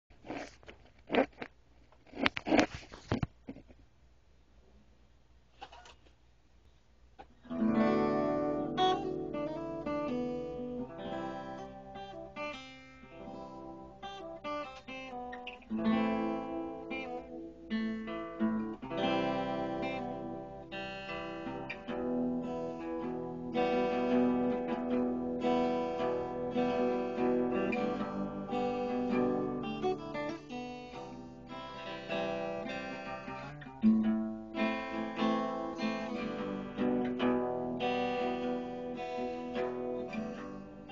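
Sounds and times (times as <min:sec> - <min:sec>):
acoustic guitar strumming: 0:07.4 - 0:40.9.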